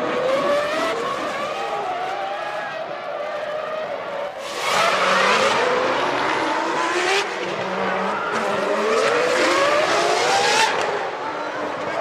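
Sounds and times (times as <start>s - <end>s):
racing car engines accelerating: 0.0s - 12.0s.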